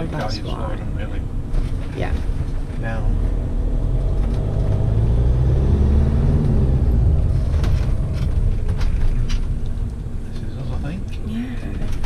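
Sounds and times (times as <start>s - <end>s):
motorhome engine rumbling: 0.0s - 12.0s.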